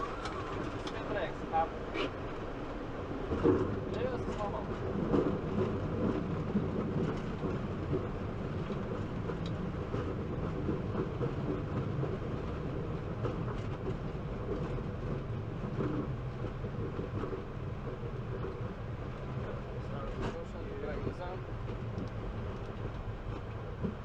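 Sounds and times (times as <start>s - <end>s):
airliner rolling on runway rumble: 0.0s - 24.0s
wheels running over runway: 0.0s - 24.0s.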